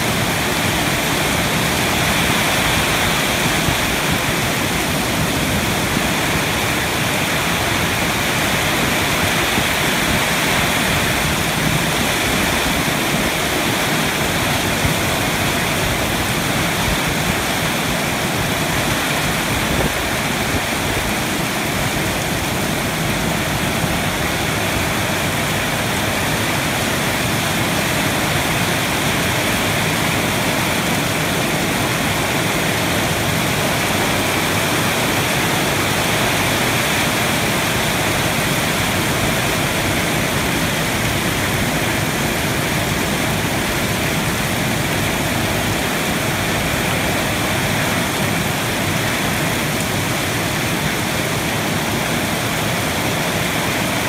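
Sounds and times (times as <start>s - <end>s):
heavy rain falling: 0.0s - 54.0s
water streaming off a roof: 0.0s - 54.0s.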